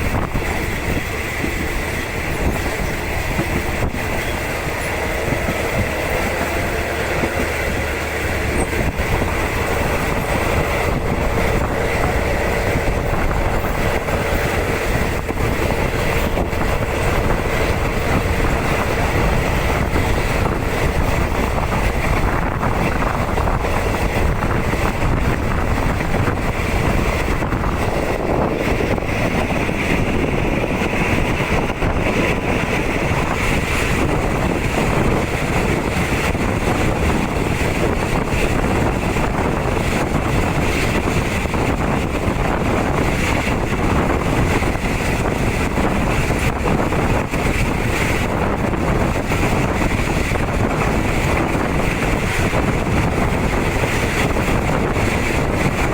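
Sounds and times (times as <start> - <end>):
train running gear rumble: 0.0 - 55.9
wind on microphone: 0.0 - 55.9.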